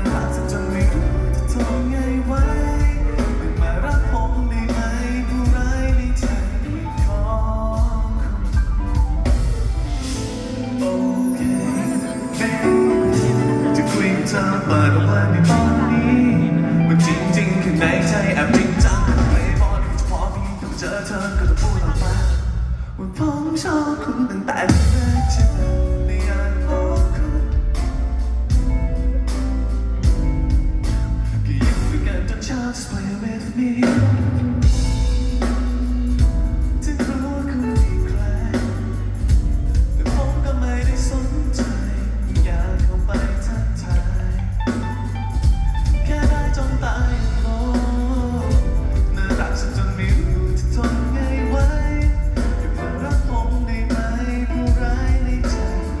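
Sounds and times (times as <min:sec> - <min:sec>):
person singing: 0:00.0 - 0:29.4, 0:30.0 - 0:56.0
drum kit beat: 0:00.0 - 0:56.0
live pop-rock band: 0:00.0 - 0:56.0.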